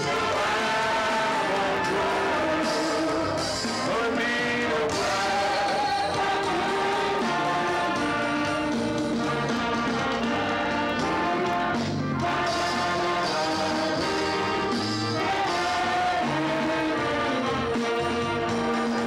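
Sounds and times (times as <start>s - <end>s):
drums: 0.0s - 19.0s
keyboard: 0.0s - 19.0s
saxophones and trumpets: 0.0s - 19.0s.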